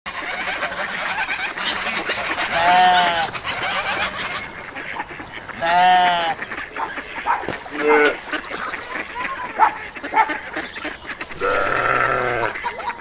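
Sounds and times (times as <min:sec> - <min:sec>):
drawn-out animal call: 0:00.1 - 0:13.0.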